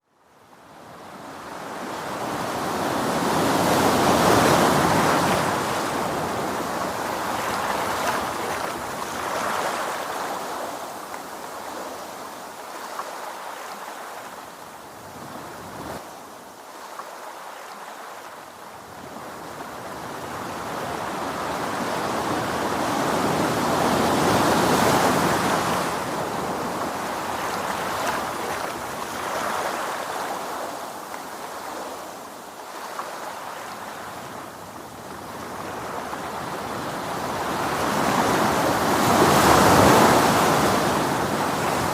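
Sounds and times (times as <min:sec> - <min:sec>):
sea waves breaking: 0:01.1 - 0:41.9.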